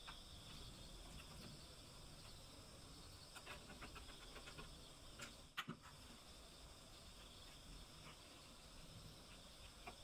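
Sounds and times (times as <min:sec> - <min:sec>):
faint high-pitched whine: 0:00.0 - 0:10.0.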